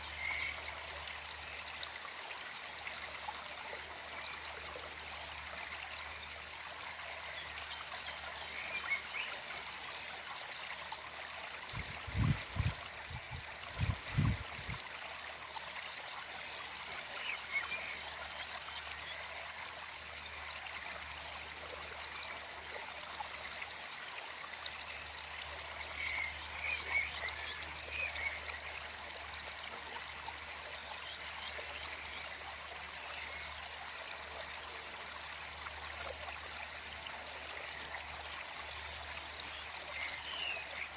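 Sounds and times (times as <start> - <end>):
forest stream flowing: 0.0 - 40.9.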